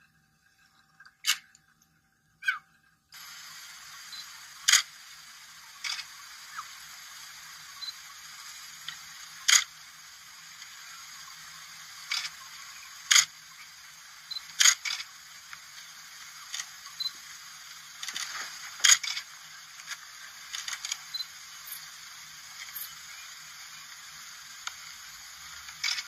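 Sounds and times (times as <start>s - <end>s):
steady hiss: 3.1s - 26.0s.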